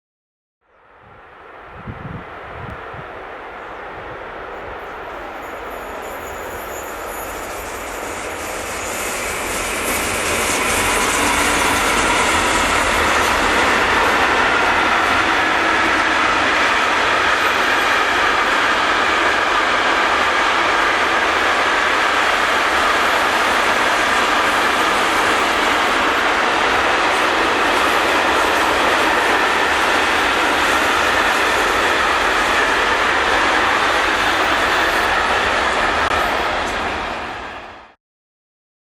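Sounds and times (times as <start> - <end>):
train passing on track: 0.7 - 38.0.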